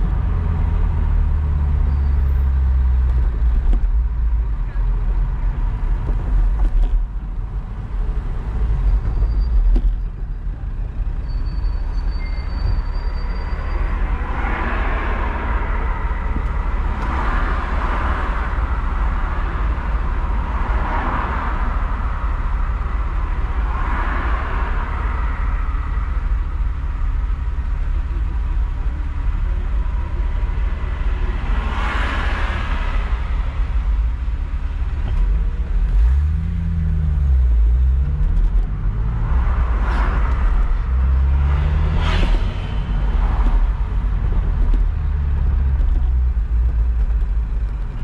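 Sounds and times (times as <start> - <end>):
vehicles passing: 0.0 - 48.0.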